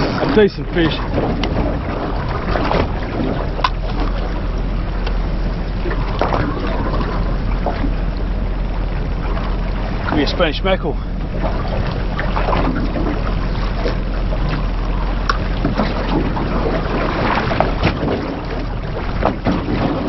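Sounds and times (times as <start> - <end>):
low hum: 0.0 - 20.0
waves slapping boat hull: 0.0 - 20.0
wind on microphone: 0.0 - 20.0.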